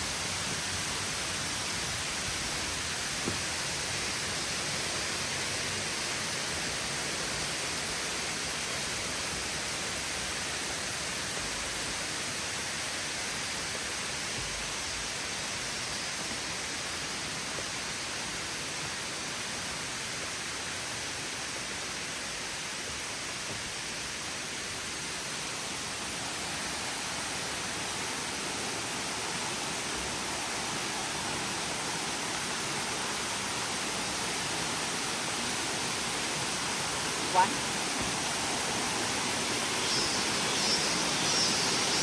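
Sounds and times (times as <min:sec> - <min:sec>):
waterfall rushing hiss: 0:00.0 - 0:42.0.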